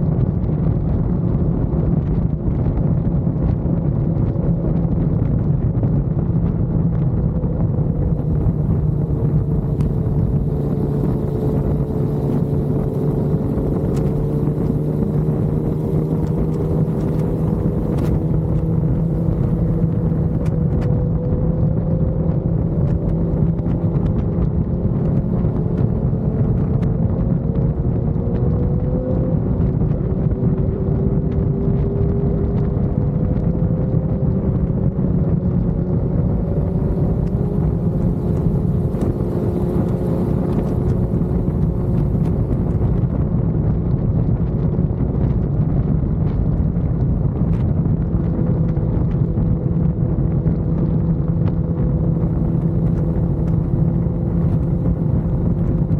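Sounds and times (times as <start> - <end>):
motorcycle engine cruising: 0.0 - 55.9
wind rush on microphone: 0.0 - 55.9.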